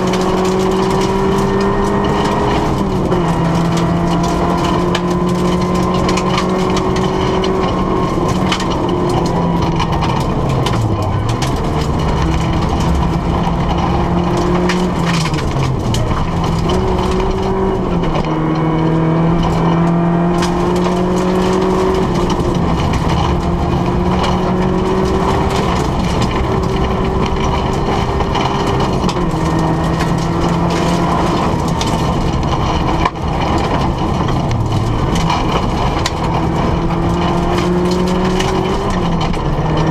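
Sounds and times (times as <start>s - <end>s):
gravel rattling against car: 0.0s - 39.9s
rally car engine revving: 0.0s - 39.9s.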